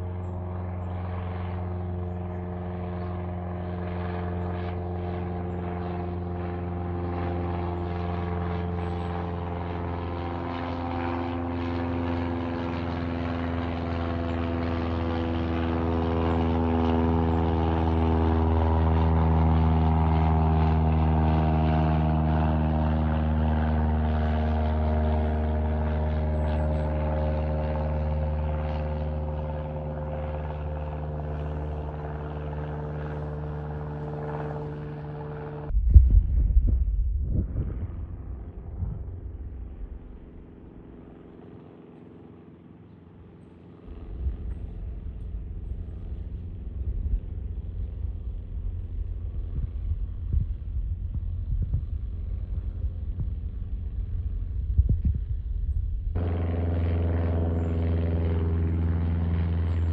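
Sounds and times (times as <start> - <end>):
propeller plane flying overhead: 0.0 - 59.9.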